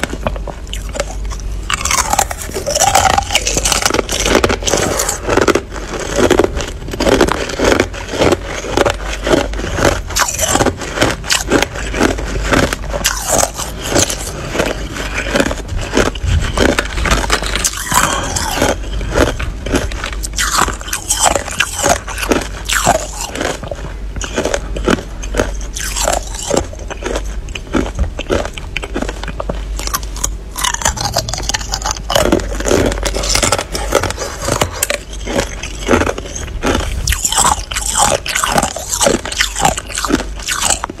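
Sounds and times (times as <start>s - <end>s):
ice crunching being chewed: 0.0s - 41.0s
low hum: 0.0s - 41.0s.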